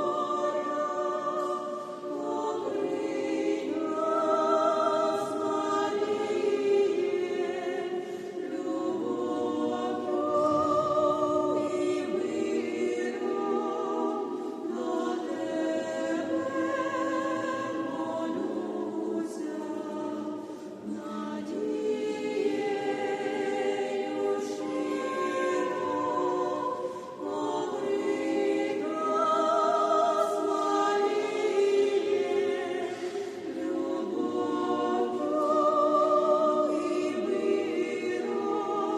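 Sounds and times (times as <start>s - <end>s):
church choir singing: 0.0s - 38.9s.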